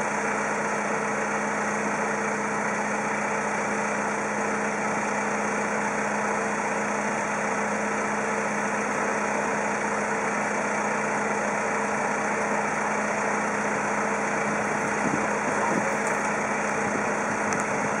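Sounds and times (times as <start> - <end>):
motor running steadily: 0.0 - 18.0.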